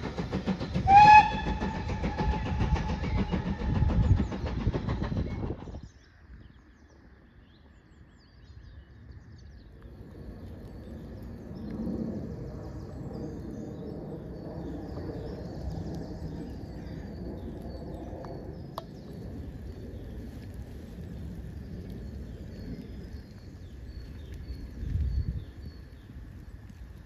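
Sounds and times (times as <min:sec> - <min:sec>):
small birds chirping and singing: 0:02.6 - 0:27.0.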